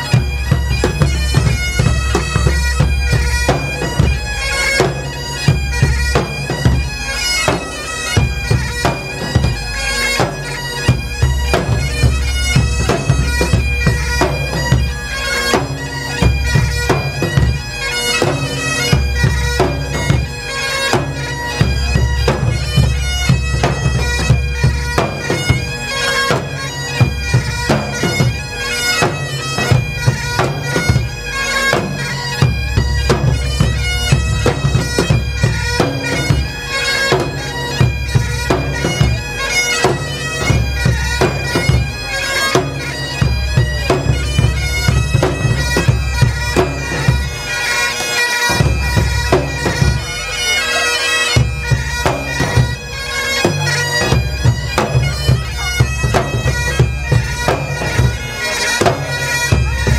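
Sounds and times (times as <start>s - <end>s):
barrel drums beating: 0.0s - 47.4s, 51.4s - 59.9s
bagpipes playing: 0.0s - 59.9s.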